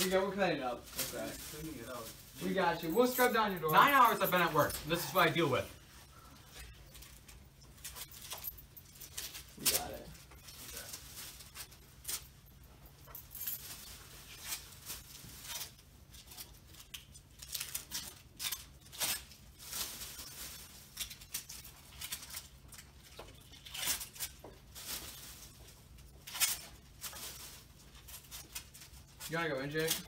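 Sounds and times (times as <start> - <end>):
plastic bag crinkling: 0.0 - 12.5, 13.2 - 30.0.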